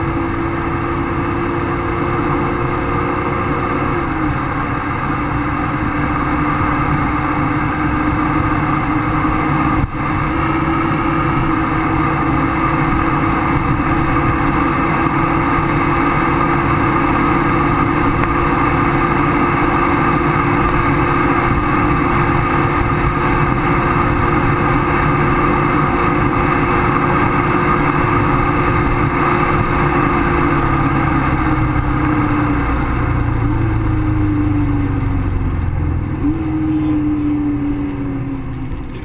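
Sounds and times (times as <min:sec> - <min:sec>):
car engine at high revs: 0:00.0 - 0:39.0
wind noise: 0:00.0 - 0:39.0.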